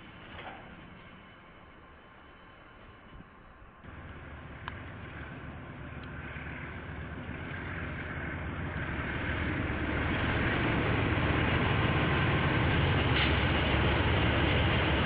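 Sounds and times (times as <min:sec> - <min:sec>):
locomotive engine: 0:00.0 - 0:15.0
train wheel noise: 0:00.0 - 0:15.0.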